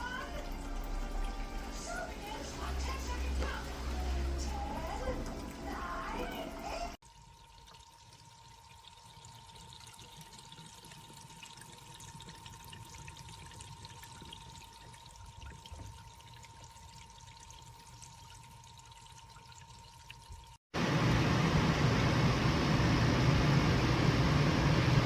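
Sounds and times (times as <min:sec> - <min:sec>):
water trickling in a pet fountain: 0:00.0 - 0:25.0.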